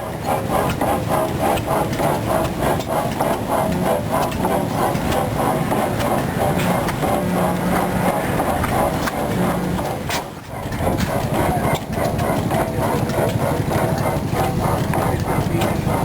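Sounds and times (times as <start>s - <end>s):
engine rhythmic clatter: 0.0s - 16.0s.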